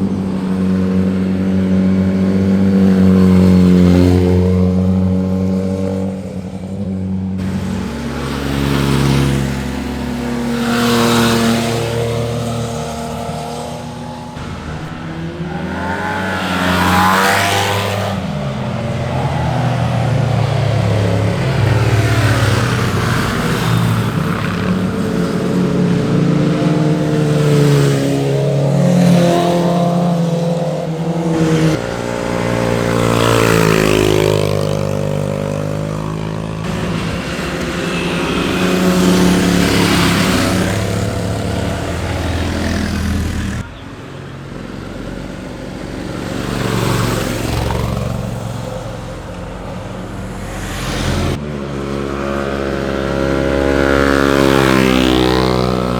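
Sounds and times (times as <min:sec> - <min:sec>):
motorcycles accelerating past: 0:00.0 - 0:55.9.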